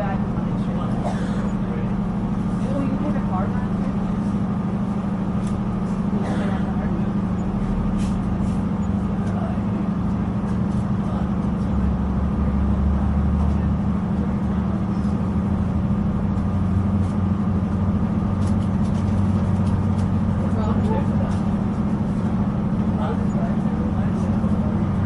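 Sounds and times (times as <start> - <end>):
diesel train engine drone: 0.0 - 25.0.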